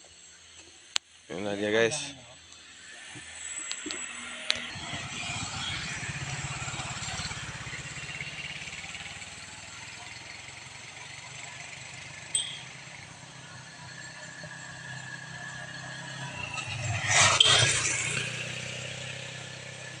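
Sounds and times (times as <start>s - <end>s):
vehicle engine running at low revs: 2.4s - 20.0s.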